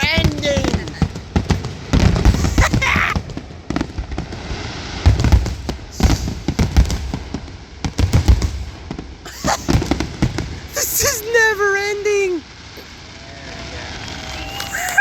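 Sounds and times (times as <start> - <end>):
fireworks booming and cracking: 0.0 - 15.0.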